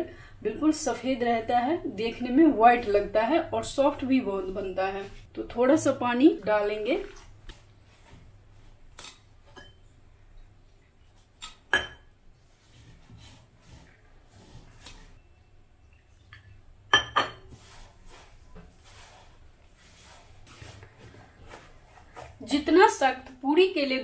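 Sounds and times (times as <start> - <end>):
hand mixing dough in bowl: 0.5 - 9.5, 10.5 - 15.2, 17.4 - 23.1.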